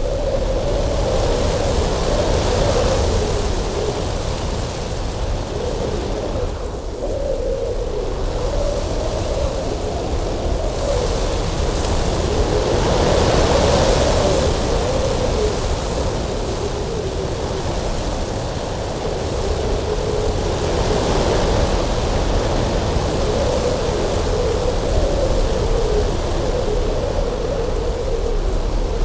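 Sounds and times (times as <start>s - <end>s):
wind whistling and gusting: 0.0s - 29.0s.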